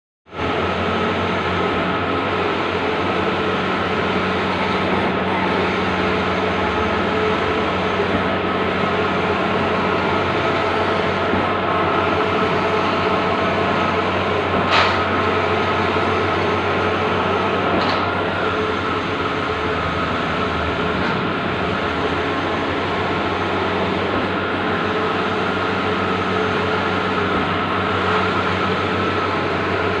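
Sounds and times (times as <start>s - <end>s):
printer whirring and humming: 0.3s - 30.0s.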